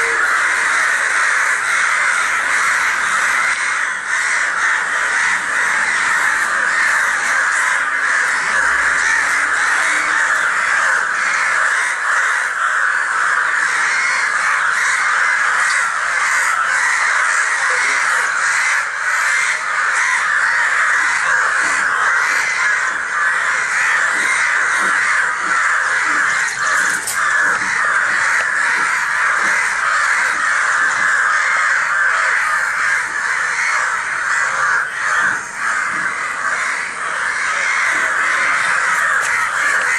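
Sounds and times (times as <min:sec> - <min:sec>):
flock of crows cawing: 0:00.0 - 0:39.9.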